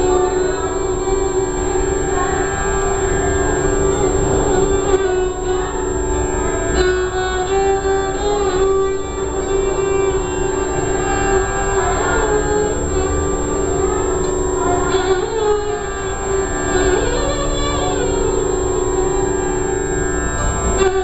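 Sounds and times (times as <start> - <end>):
bowed violin melody: 0.0 - 21.0
steady drone: 0.0 - 21.0.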